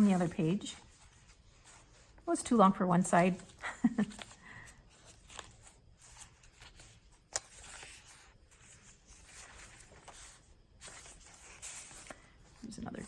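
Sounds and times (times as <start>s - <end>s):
pages rustling: 0.0s - 13.0s.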